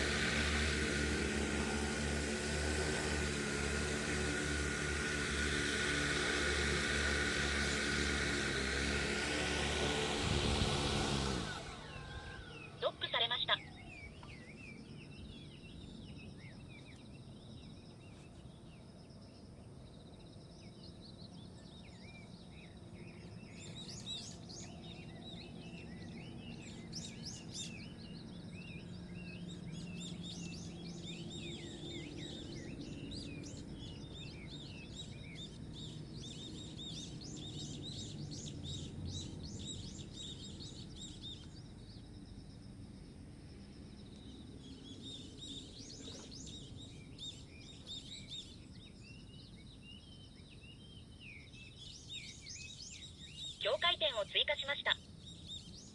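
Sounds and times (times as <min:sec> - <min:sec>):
small birds chirping and twittering: 0:00.0 - 0:55.9.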